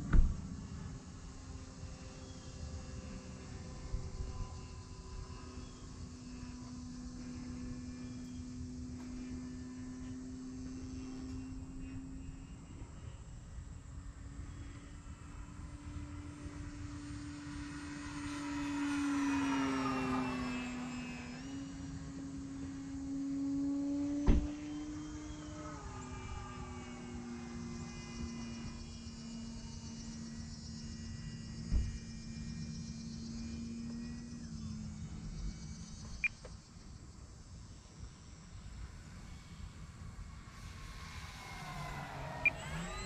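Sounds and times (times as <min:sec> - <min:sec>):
model plane motor droning: 0:00.0 - 0:43.0.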